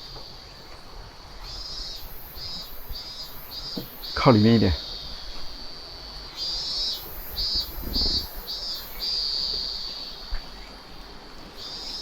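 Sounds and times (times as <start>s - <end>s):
insect buzzing: 0.0s - 12.0s.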